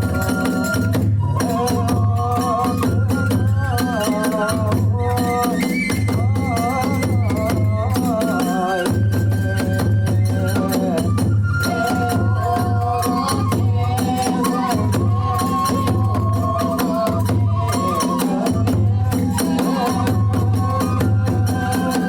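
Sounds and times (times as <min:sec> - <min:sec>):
bamboo flute melody: 0:00.0 - 0:22.0
drumming: 0:00.0 - 0:22.0.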